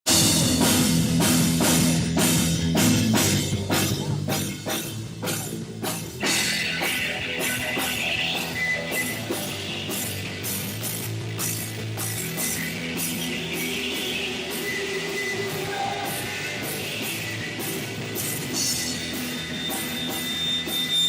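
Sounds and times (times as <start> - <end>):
bass guitar: 0.0 - 21.0
drum kit beating: 0.0 - 21.0
electric guitar: 0.1 - 21.0.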